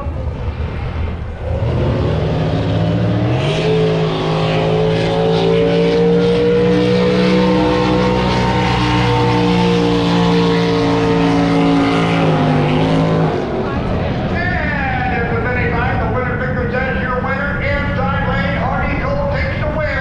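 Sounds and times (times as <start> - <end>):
racing boat engine revving: 0.0 - 20.0.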